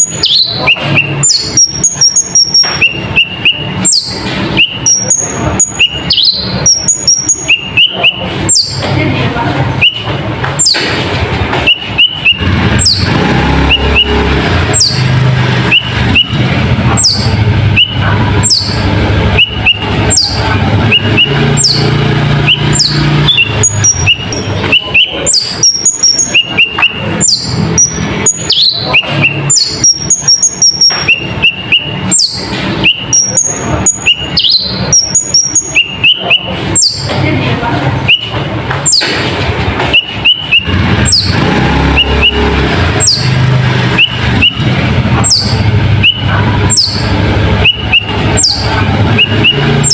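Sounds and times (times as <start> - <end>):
bird singing sharp sweeping notes: 0.0 - 8.9, 9.7 - 11.0, 11.6 - 37.1, 39.9 - 49.9
bird chirps: 0.0 - 9.1, 9.7 - 37.3, 38.0 - 49.9.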